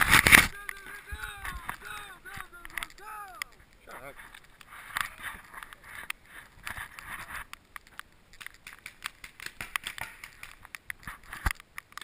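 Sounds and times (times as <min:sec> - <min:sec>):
rustling hiss: 0:00.0 - 0:12.0.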